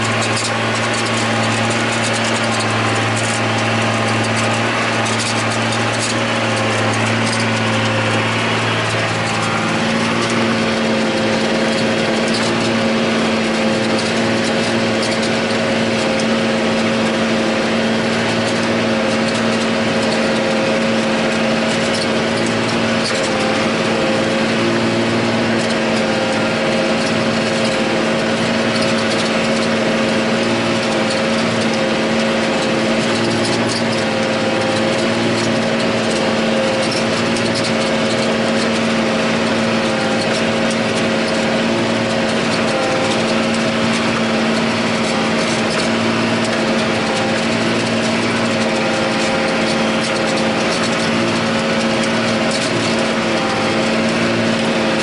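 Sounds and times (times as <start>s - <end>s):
light rattling ticks: 0.0s - 55.0s
tractor diesel engine under load: 0.0s - 55.0s.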